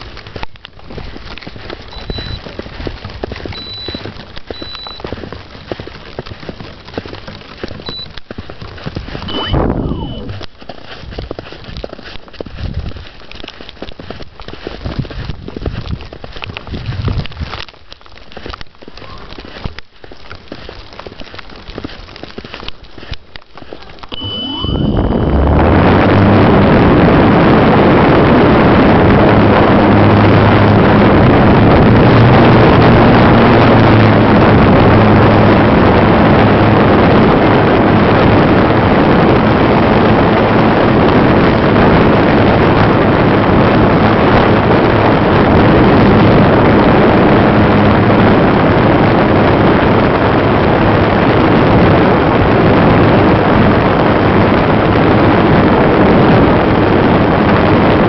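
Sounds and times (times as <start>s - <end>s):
wind rushing over microphone: 0.0s - 17.7s, 23.8s - 58.0s.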